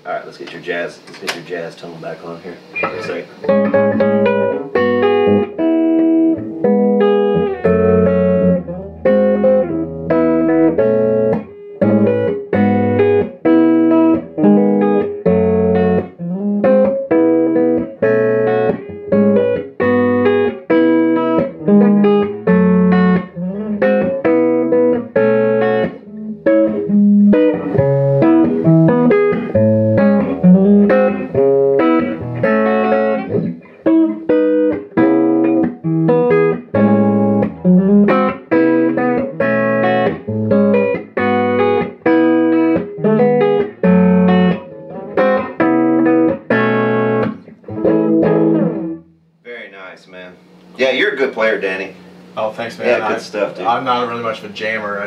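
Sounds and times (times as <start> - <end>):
clean electric guitar chords: 2.6 - 49.2.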